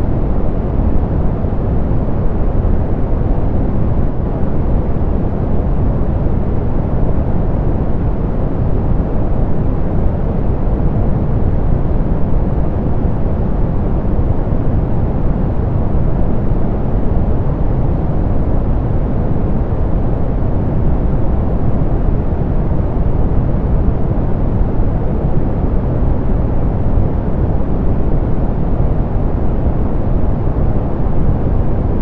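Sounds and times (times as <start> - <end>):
steady pink noise: 0.0 - 32.0.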